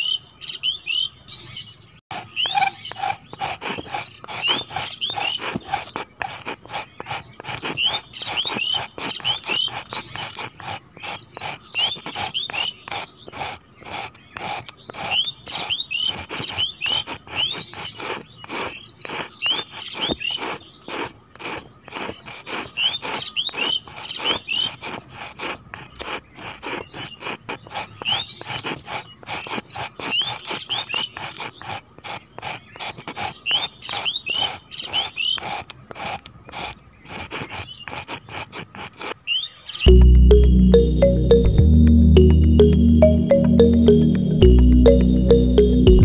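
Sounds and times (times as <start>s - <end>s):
trowel scraping wet cement: 2.1s - 39.3s.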